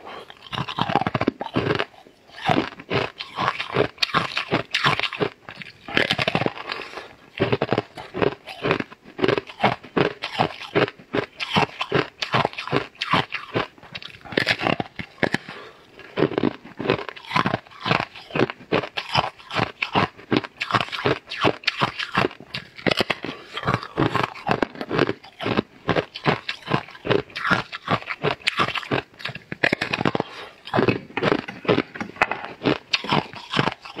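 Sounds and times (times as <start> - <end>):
crunching and chewing crisp snack: 0.0 - 34.0.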